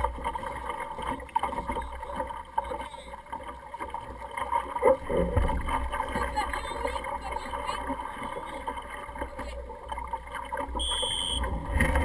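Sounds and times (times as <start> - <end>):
water sloshing against a hull: 0.0 - 12.0.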